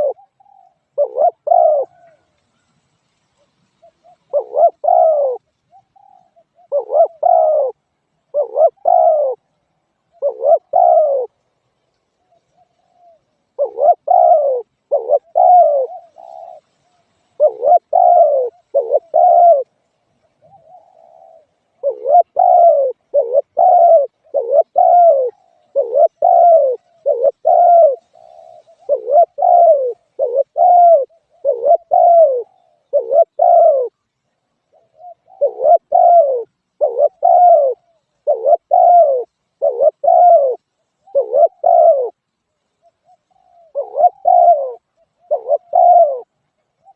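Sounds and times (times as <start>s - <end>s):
dove cooing: 0.0s - 2.6s, 3.7s - 11.5s, 12.2s - 34.0s, 34.6s - 42.2s, 42.8s - 46.9s.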